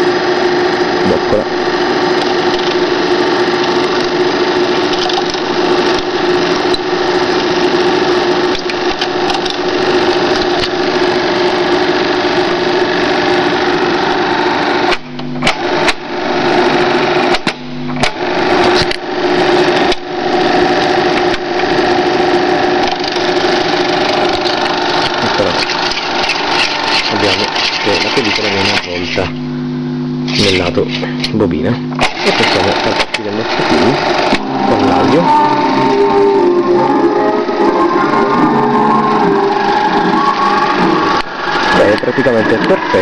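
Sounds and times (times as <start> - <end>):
film projector whirring: 0.0 - 43.0
projector hum: 0.0 - 43.0.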